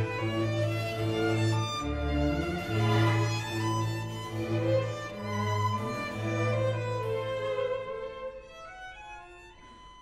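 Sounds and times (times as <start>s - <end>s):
cello and double bass notes: 0.0s - 10.0s
solo violin: 0.0s - 10.0s.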